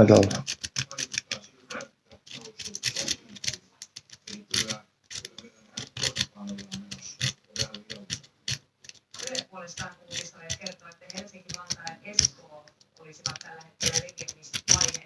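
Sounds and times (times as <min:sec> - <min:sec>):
lock pick clicking and scraping: 0:00.2 - 0:15.0.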